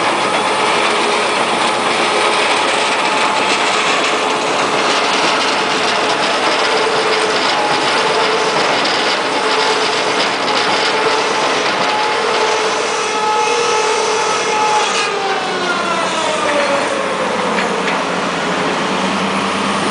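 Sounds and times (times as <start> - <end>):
crusher bucket rattling and grinding: 0.0 - 19.9
hydraulic whine: 0.0 - 19.9.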